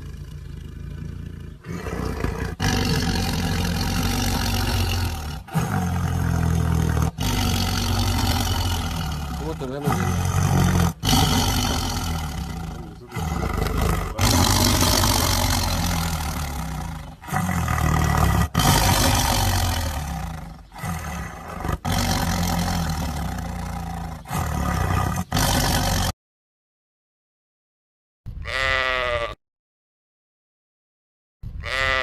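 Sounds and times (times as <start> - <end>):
tiger roaring: 0.0 - 26.2.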